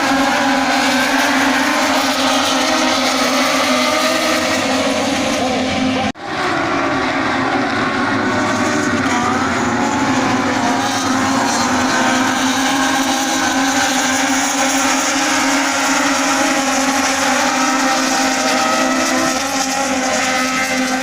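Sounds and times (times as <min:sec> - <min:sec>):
racing motorcycles at high revs: 0:00.0 - 0:21.0.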